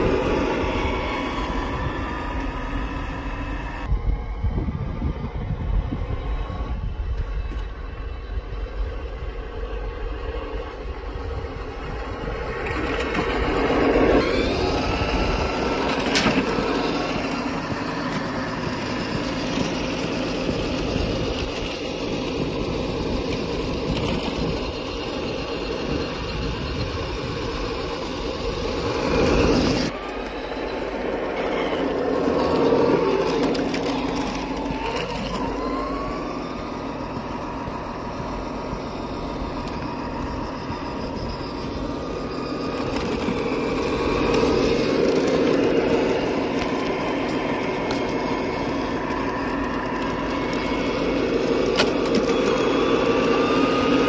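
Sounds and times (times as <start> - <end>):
simulated truck engine sound: 0.0 - 54.0.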